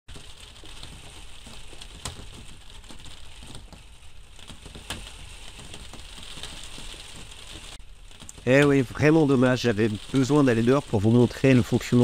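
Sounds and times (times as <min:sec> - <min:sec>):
rain pattering: 0:00.1 - 0:12.0.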